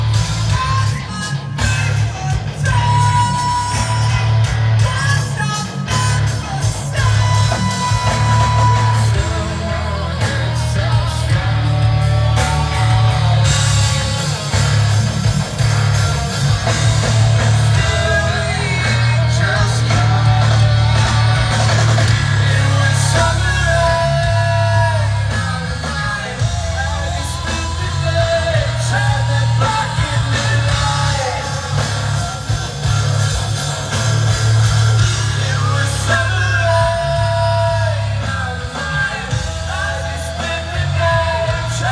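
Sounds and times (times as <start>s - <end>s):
hard rock band playing: 0.0s - 41.9s
yelled vocals: 0.0s - 41.9s.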